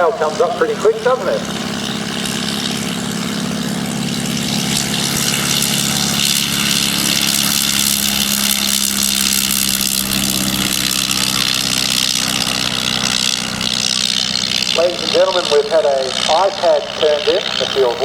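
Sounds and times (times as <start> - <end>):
biplane engine and propeller drone: 0.0 - 18.0.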